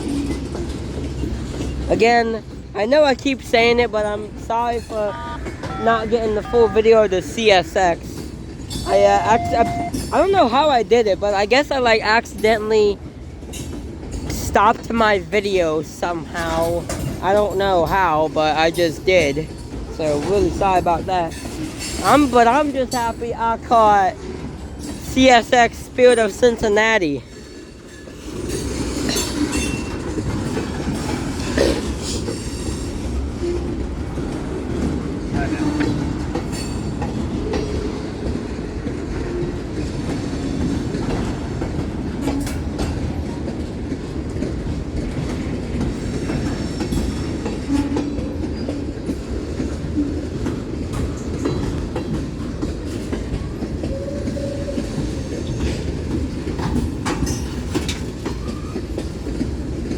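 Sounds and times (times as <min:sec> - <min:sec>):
wheels clicking over rail joints: 0:00.0 - 0:09.2, 0:09.8 - 0:59.9
train wheels rumbling on rail: 0:00.0 - 0:59.9.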